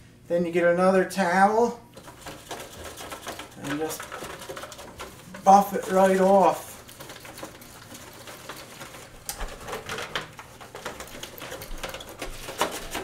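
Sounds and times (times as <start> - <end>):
cloth towel rubbing plastic: 2.0 - 13.0.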